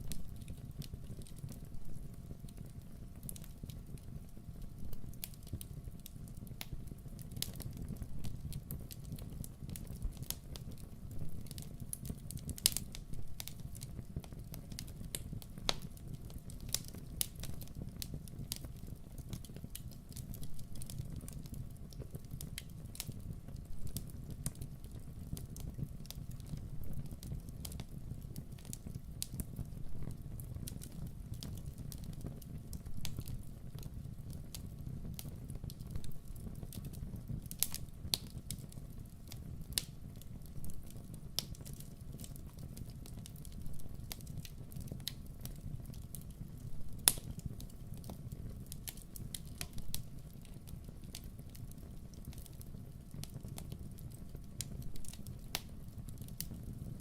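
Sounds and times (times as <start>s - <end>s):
campfire crackling and snapping: 0.0s - 57.0s.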